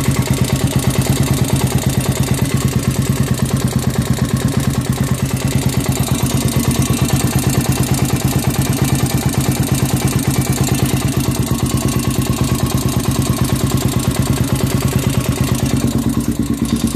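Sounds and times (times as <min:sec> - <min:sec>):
engine knocking tick: 0:00.0 - 0:16.9
quad bike engine idling: 0:00.0 - 0:16.9.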